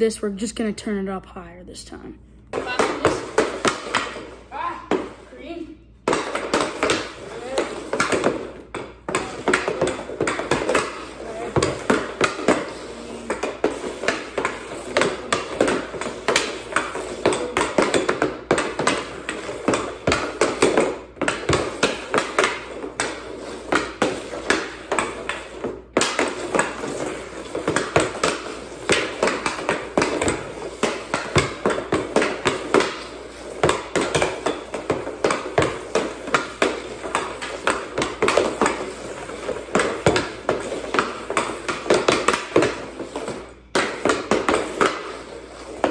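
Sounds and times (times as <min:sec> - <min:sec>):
hockey stick tapping ball: 0:02.5 - 0:05.3, 0:06.0 - 0:45.9.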